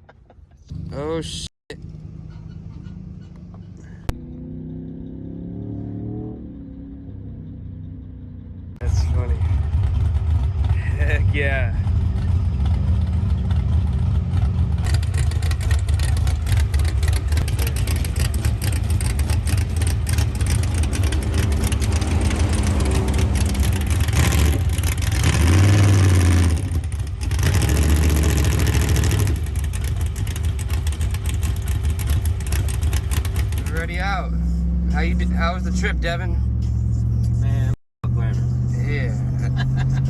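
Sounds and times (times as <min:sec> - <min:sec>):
road noise: 0:00.0 - 0:40.0
vehicle engine: 0:00.0 - 0:40.0.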